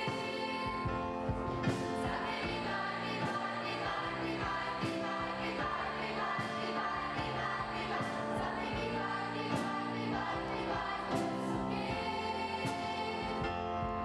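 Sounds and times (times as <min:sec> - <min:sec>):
band with keyboard: 0:00.0 - 0:14.0
choir singing pop song: 0:00.0 - 0:14.0.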